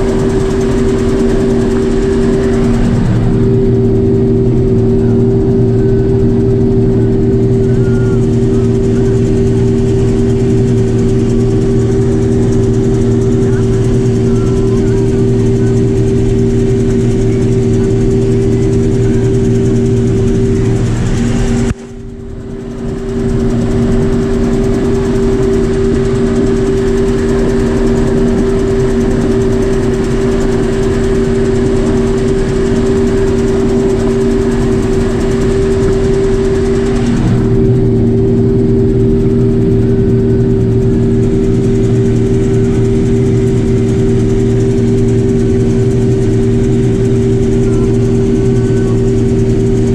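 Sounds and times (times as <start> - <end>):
combine harvester engine drone: 0.0 - 49.9.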